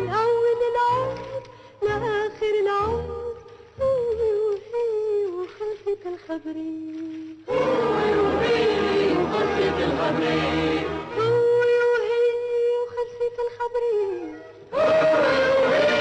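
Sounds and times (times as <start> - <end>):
film song music with singing: 0.0 - 13.4, 14.6 - 16.0.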